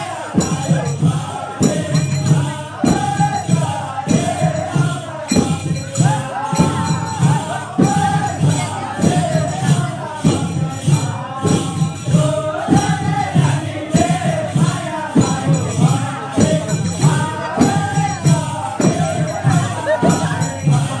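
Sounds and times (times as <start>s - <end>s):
steady drum beat: 0.0s - 21.0s.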